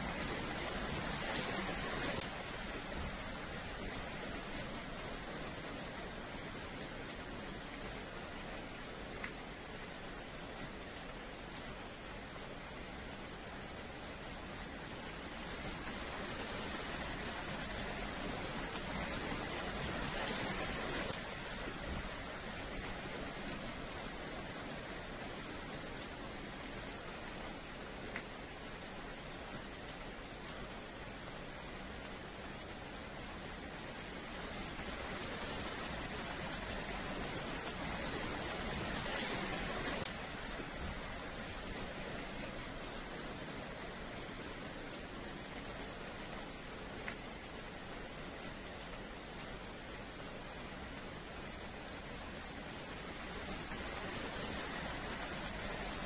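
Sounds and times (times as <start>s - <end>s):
rain on wet paving: 0.0s - 56.0s.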